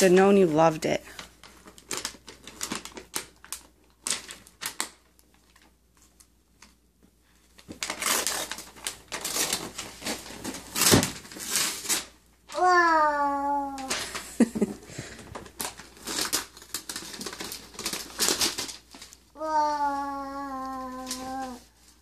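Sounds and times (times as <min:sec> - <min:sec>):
wrapping paper tearing and crinkling: 0:01.1 - 0:06.8, 0:07.4 - 0:14.3, 0:15.3 - 0:22.0.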